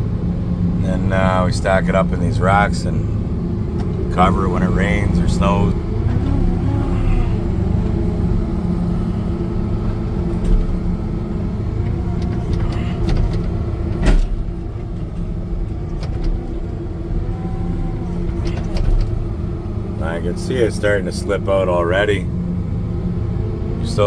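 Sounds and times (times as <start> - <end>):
wheel loader diesel engine running: 0.0 - 24.0.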